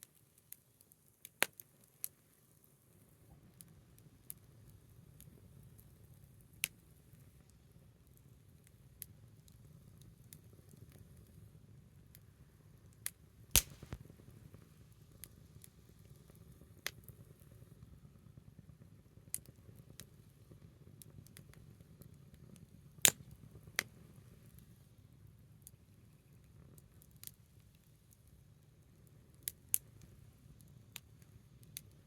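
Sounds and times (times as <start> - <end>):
wood fire crackling and popping: 1.2 - 1.7, 3.3 - 32.0.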